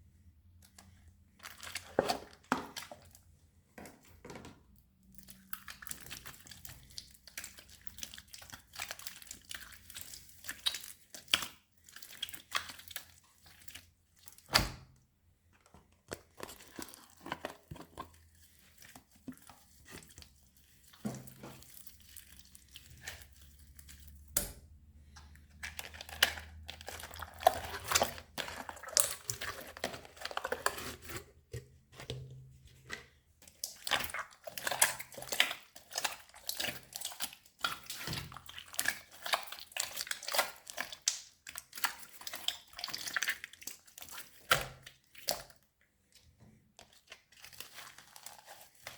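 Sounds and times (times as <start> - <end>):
slime squishing and crackling: 0.8 - 3.2, 5.0 - 14.9, 16.1 - 31.6, 32.3 - 45.7, 46.8 - 48.9.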